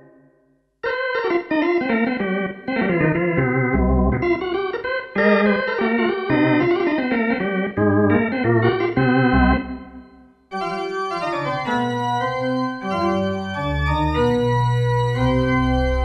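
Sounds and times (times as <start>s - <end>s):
organ chords with vibrato: 0.8s - 16.0s
pipe organ chords: 0.8s - 16.0s.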